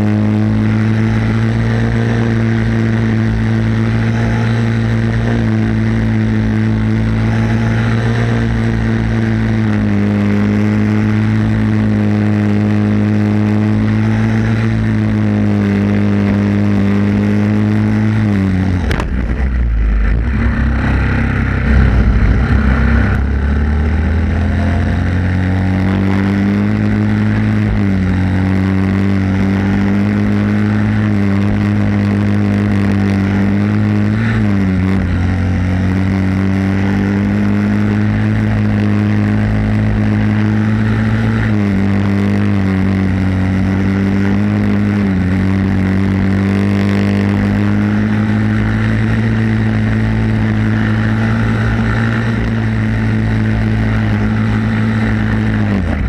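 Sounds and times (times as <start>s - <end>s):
go-kart engine at high revs: 0.0s - 56.0s.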